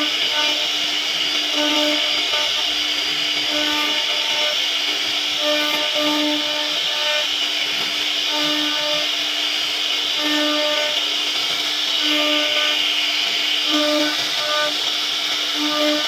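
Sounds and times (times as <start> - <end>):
cnc router spindle carving wood: 0.0 - 16.0.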